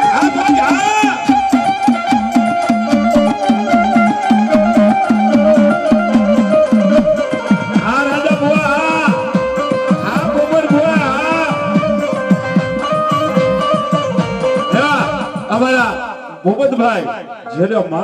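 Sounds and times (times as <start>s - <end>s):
hand drum beat: 0.0s - 16.1s
harmonium melody: 0.0s - 18.0s.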